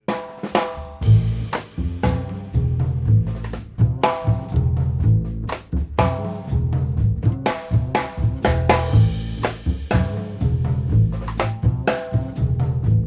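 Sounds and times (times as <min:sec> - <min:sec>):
drum-kit beat: 0:00.0 - 0:13.0
bass line: 0:01.0 - 0:13.0.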